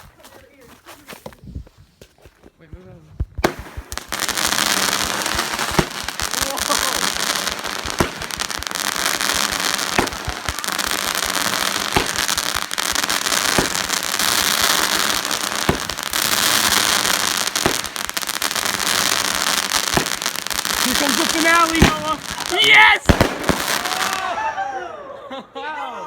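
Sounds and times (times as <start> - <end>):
firework crackling: 3.4 - 24.6
firework shots: 3.4 - 24.6.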